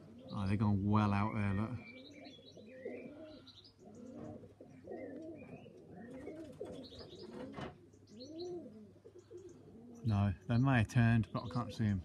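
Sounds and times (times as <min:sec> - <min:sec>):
pigeons cooing: 0:00.0 - 0:12.0
small birds chirping faintly: 0:00.0 - 0:12.0.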